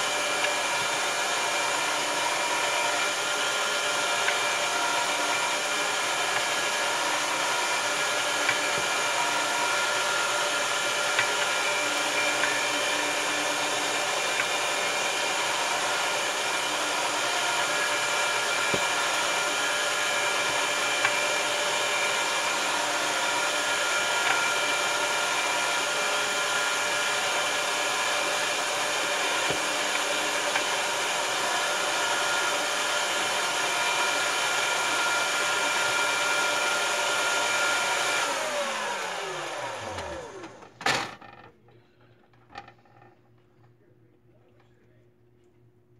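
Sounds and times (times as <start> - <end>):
meat grinder motor whine: 0.0 - 41.4.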